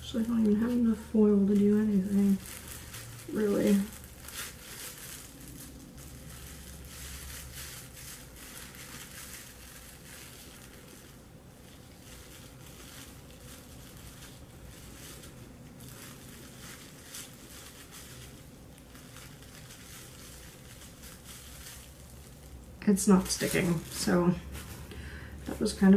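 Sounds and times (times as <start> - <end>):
plastic cling wrap crinkling: 0.0 - 25.9.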